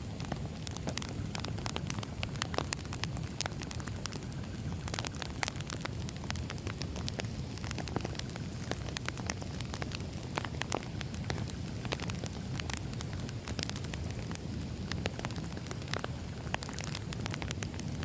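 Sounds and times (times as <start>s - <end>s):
low rumble of burning logs: 0.0s - 18.0s
wood fire crackling: 0.0s - 18.0s.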